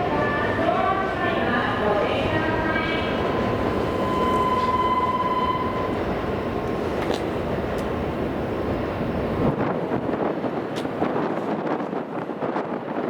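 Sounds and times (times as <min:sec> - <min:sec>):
train rushing noise: 0:00.0 - 0:13.0.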